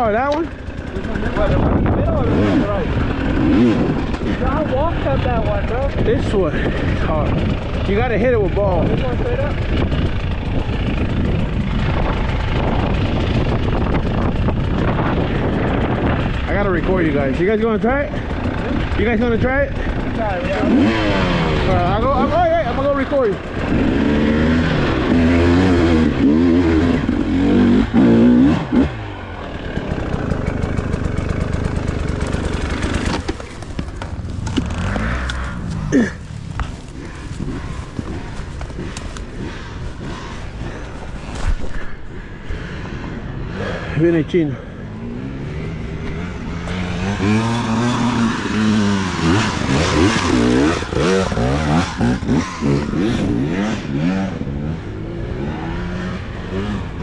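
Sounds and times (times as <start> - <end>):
dirt bike engine revving: 0.0 - 57.0
steady engine running: 0.0 - 57.0.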